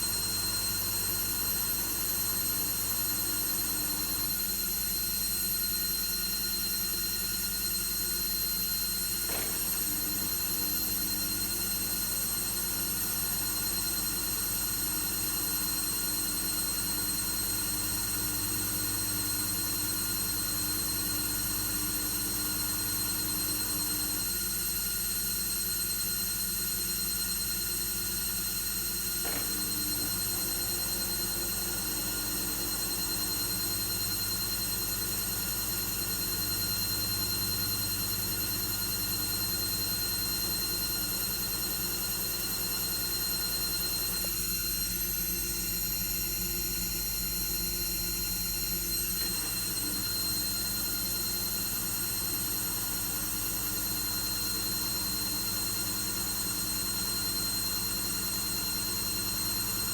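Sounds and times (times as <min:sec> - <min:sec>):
washing machine whine: 0:00.0 - 0:59.9.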